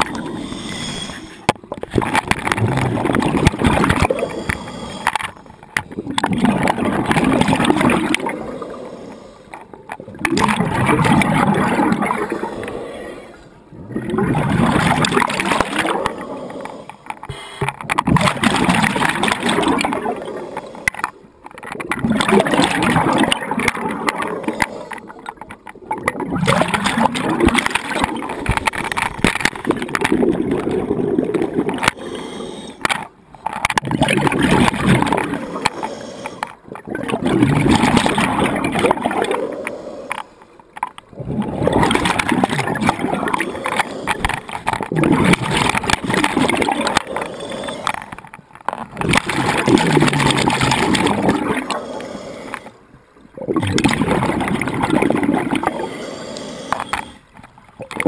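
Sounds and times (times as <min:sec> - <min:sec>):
regulator breathing underwater: 0:00.0 - 0:09.8, 0:10.5 - 0:21.2, 0:22.4 - 0:25.4, 0:26.6 - 0:48.4, 0:49.1 - 0:58.0
exhaled bubbles gurgling: 0:00.0 - 0:58.0.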